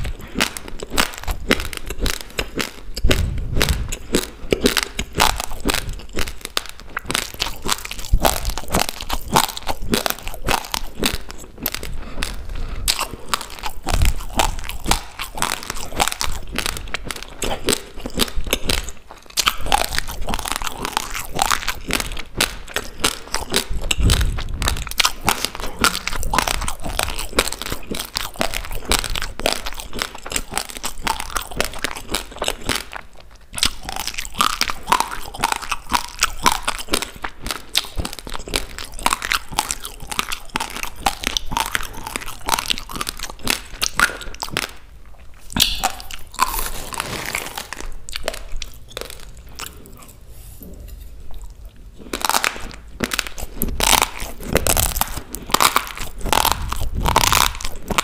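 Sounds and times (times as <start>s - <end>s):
chewing crunchy raw rice: 0.0s - 58.0s.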